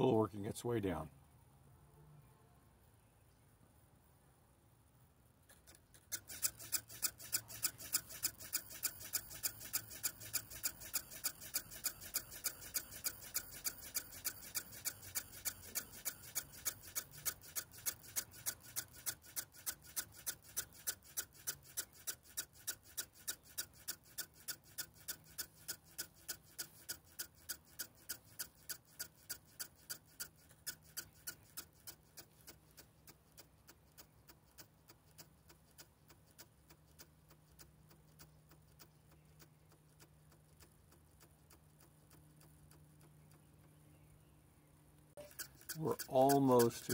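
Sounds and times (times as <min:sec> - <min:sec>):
servos ticking: 0:05.5 - 0:43.8, 0:45.0 - 0:46.9.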